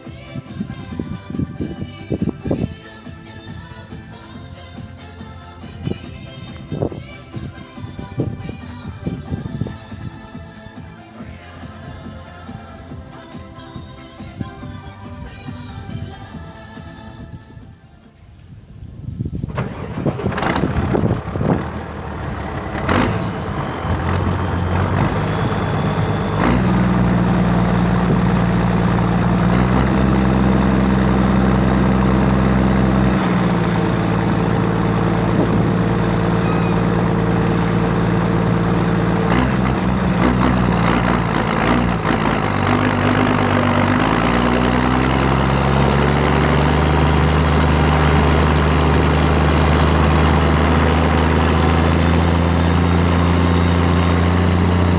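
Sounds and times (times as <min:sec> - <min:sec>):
tractor diesel engine revving: 0:00.7 - 0:16.0, 0:19.5 - 0:54.9.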